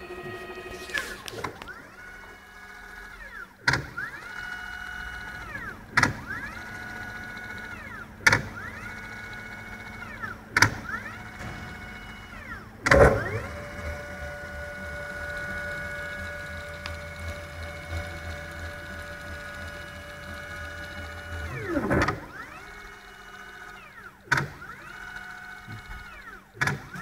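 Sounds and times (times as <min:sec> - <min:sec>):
machine motors whining: 0:00.0 - 0:27.0.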